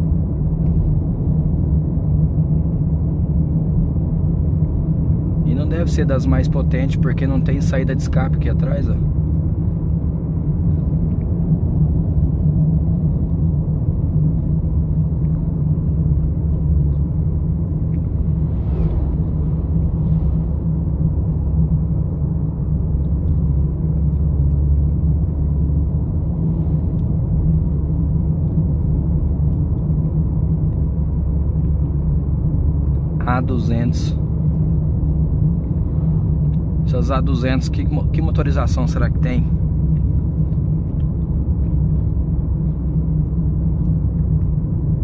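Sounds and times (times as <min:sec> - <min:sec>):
car cabin road and engine rumble: 0:00.0 - 0:45.0.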